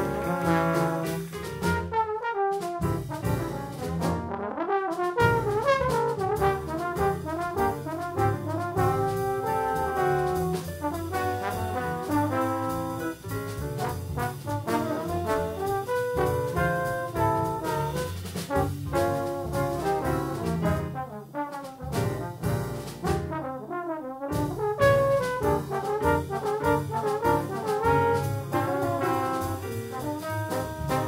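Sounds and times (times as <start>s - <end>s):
drums with cymbal strokes: 0.0s - 2.0s, 2.6s - 4.2s, 5.0s - 23.4s, 24.4s - 31.0s
walking upright bass: 0.0s - 2.0s, 2.8s - 4.4s, 5.2s - 23.4s, 24.3s - 31.0s
piano: 0.0s - 31.0s
trombones playing melody: 0.0s - 31.0s.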